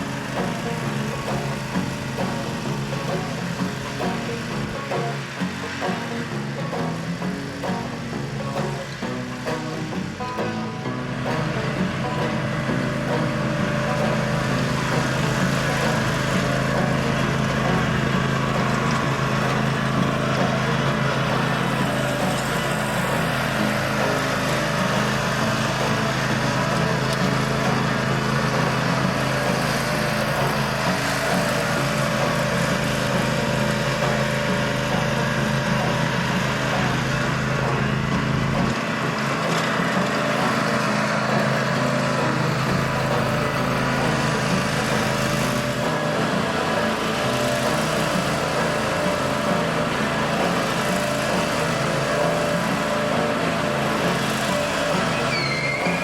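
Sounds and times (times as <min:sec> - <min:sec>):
mower engine running: 0:00.0 - 0:56.0.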